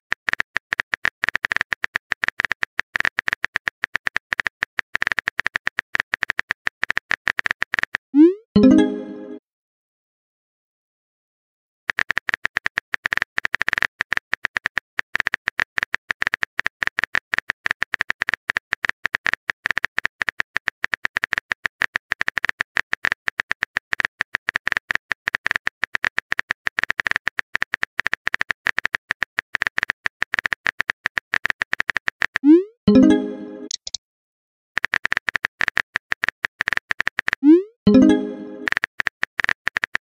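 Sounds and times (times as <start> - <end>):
phone keyboard typing clicks: 0.1 - 8.0, 11.9 - 34.0, 34.8 - 40.0.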